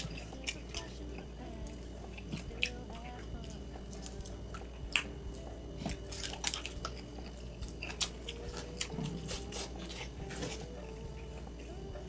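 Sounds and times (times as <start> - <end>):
person chewing and biting: 0.0 - 12.0.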